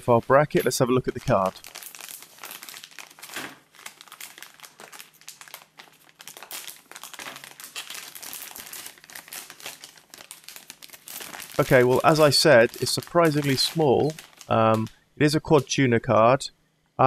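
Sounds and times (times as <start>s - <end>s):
plastic bag crinkling: 0.0s - 15.7s.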